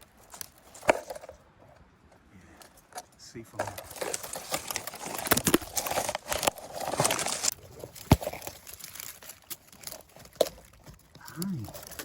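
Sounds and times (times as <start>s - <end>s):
leaves and branches rustling: 0.0s - 12.0s
twigs crackling: 0.0s - 12.0s.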